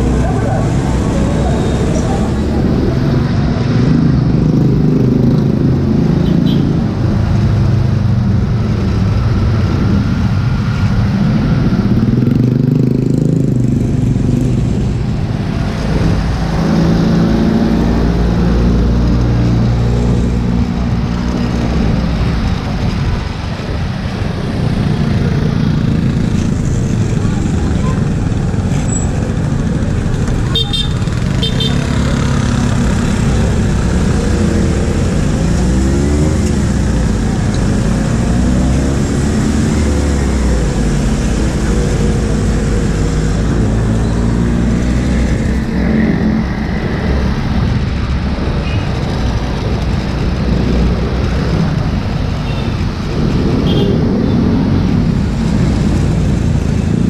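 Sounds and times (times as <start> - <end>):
road and wind rumble: 0.0 - 57.0.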